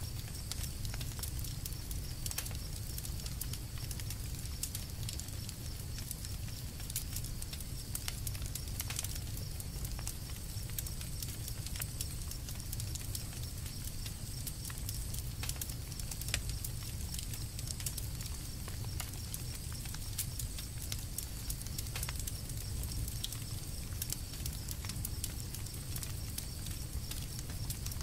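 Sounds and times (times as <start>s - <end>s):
campfire crackling and popping: 0.0s - 28.0s
low rumble of fire: 0.0s - 28.0s.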